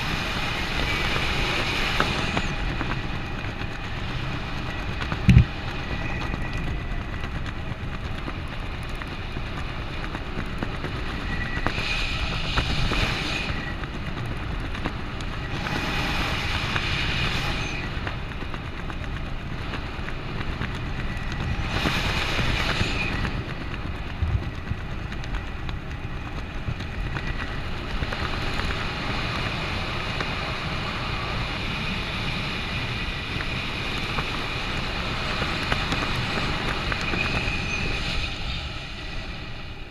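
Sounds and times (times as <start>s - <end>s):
wind rushing past microphone: 0.0s - 39.9s.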